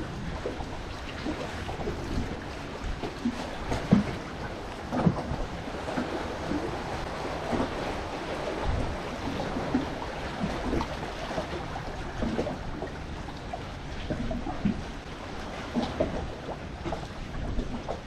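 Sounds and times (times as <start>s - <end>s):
waves lapping and splashing: 0.0s - 18.0s
wind noise on microphone: 0.0s - 18.0s.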